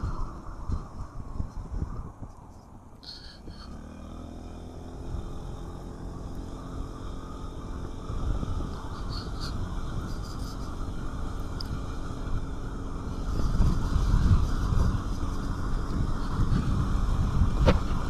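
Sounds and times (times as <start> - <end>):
wind rumble on microphone: 0.0 - 18.0
scooter engine accelerating: 3.0 - 18.0.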